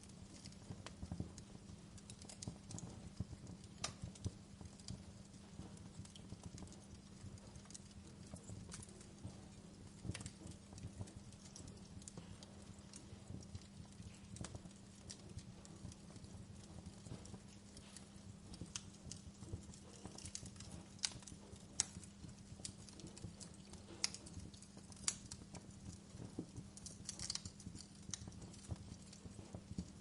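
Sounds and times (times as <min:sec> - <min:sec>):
campfire crackling: 0:00.0 - 0:30.0
fire popping and snapping: 0:00.0 - 0:30.0.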